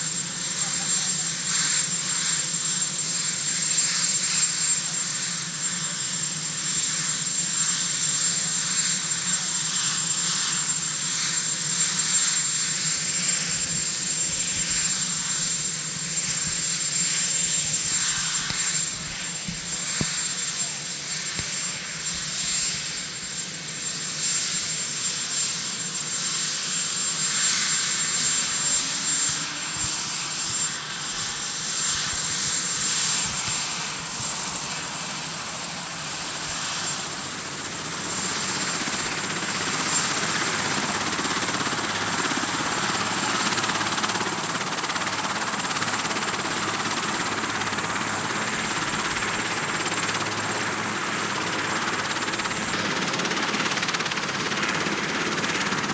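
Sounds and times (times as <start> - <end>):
helicopter rotor and engine rush: 0.0 - 55.9
high turbine whine: 0.0 - 55.9.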